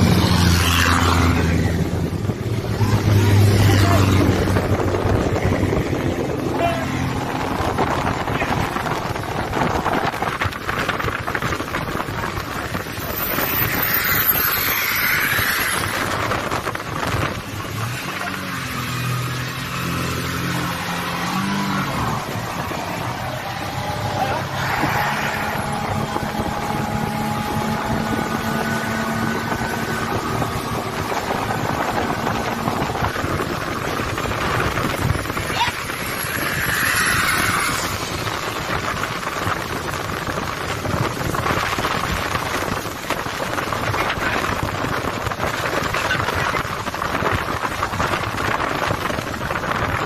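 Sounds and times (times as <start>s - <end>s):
speedboat engine running: 0.0s - 50.0s
wind buffeting microphone: 0.0s - 50.0s.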